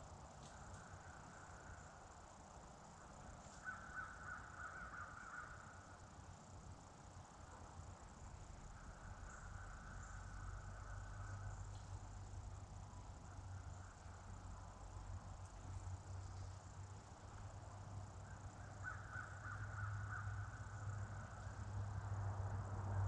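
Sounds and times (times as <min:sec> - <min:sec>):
high insect hum: 0:00.0 - 0:23.0.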